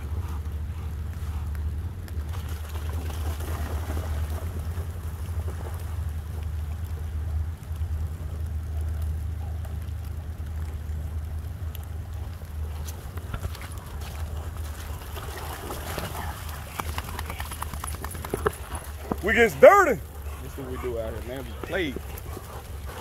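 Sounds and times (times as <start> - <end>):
creek water running: 0.0 - 23.0
faint rain: 0.0 - 23.0.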